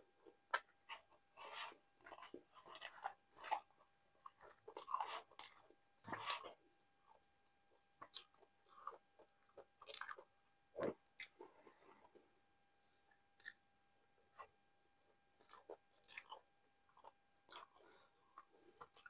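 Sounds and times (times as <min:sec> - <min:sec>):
man chewing food: 0:00.0 - 0:19.0.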